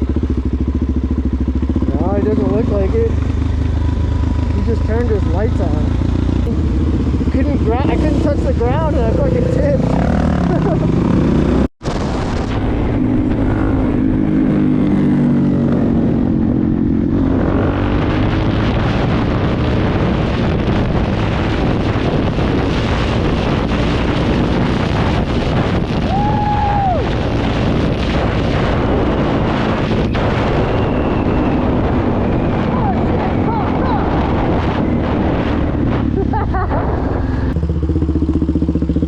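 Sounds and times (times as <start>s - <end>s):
motorcycle engine running: 0.0s - 11.7s, 12.4s - 39.0s
wind noise on microphone: 4.2s - 39.0s.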